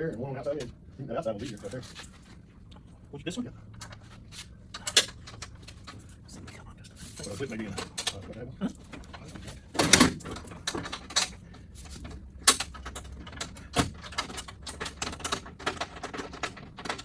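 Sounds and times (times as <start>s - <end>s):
tools and metal parts clicking: 1.4s - 2.4s, 3.8s - 17.0s.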